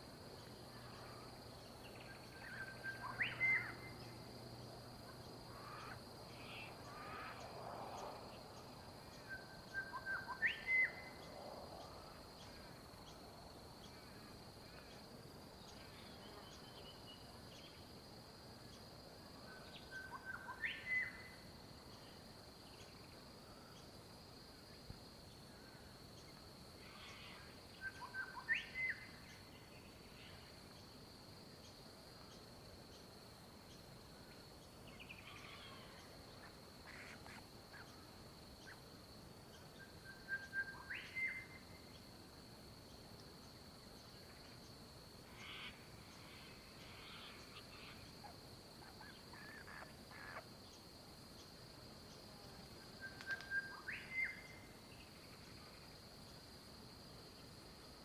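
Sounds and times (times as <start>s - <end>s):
high insect trill: 0.0s - 58.0s.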